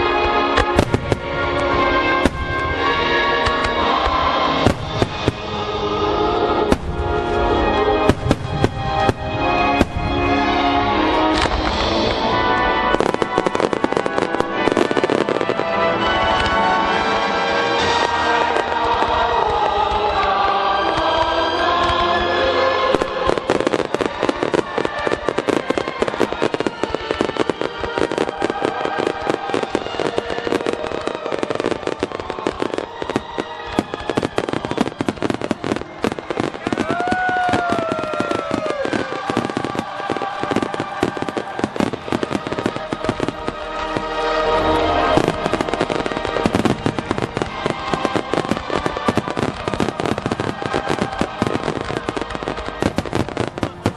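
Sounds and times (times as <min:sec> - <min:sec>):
fireworks bangs and crackling: 0:00.0 - 0:53.9
music over loudspeakers: 0:00.0 - 0:53.9.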